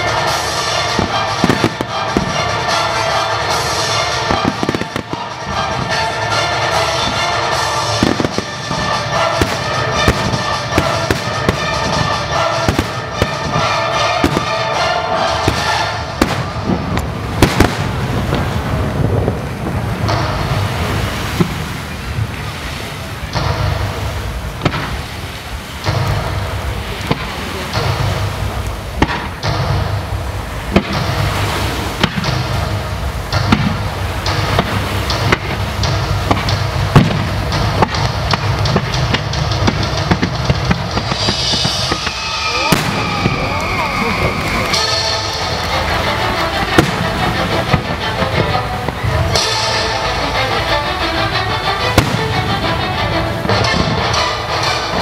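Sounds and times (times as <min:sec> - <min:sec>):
fireworks bangs: 0:00.0 - 0:55.0
hissing crackle: 0:00.0 - 0:55.0
music playing: 0:00.0 - 0:55.0.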